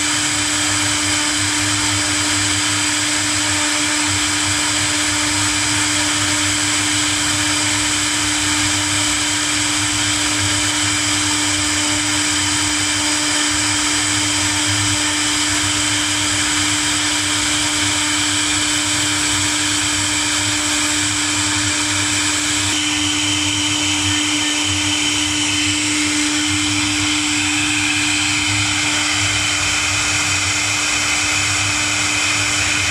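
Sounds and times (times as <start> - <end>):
router spindles whining: 0.0 - 32.9.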